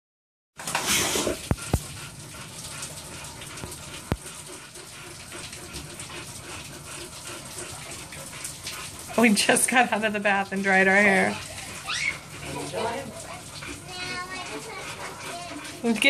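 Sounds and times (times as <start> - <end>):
steady rain falling: 1.4 - 16.0.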